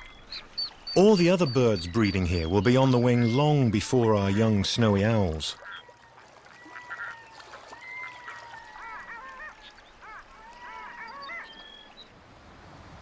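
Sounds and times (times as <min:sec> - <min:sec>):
loons cackling: 0:01.0 - 0:11.8.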